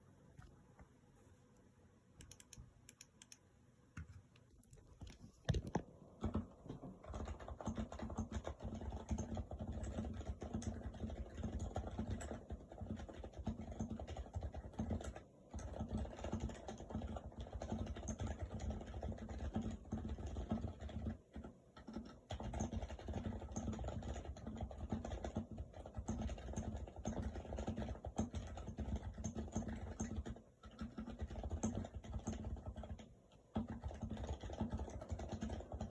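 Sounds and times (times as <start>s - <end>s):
keyboard typing with muted thock: 2.2s - 35.9s.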